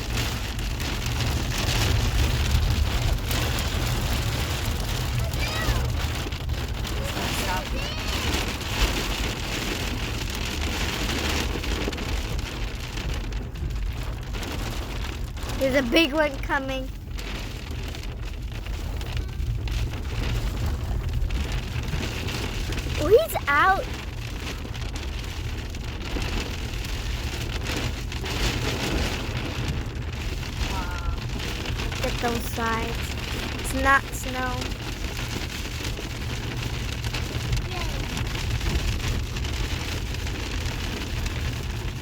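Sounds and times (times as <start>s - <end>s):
hail clattering: 0.0s - 42.0s.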